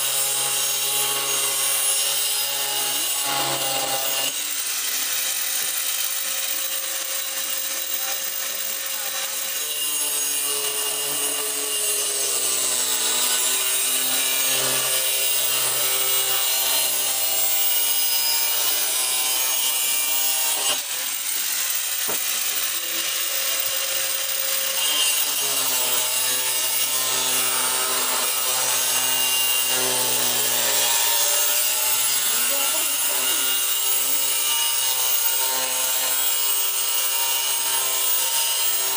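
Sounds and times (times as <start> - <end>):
angle grinder cutting: 0.0 - 38.9.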